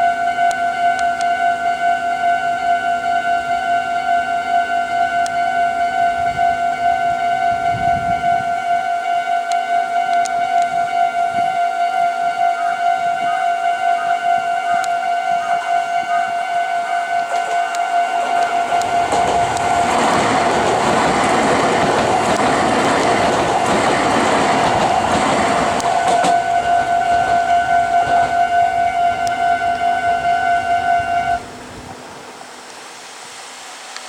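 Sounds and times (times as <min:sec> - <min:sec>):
level crossing warning bell: 0:00.0 - 0:32.7
electric train passing: 0:00.0 - 0:34.0.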